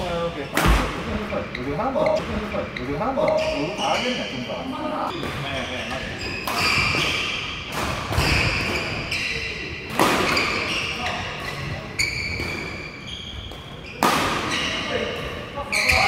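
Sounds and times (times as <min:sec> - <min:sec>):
shoes squeaking on floor: 0:01.4 - 0:16.0.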